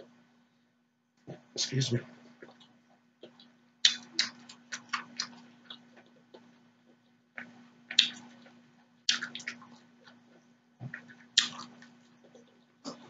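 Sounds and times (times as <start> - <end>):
faint low hum: 0.0 - 13.0
wet chewing: 2.3 - 13.0.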